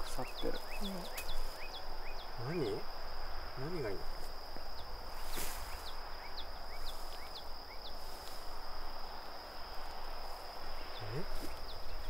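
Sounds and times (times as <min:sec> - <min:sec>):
crickets and insects trilling: 0:00.0 - 0:12.0
outdoor hiss: 0:00.0 - 0:12.0.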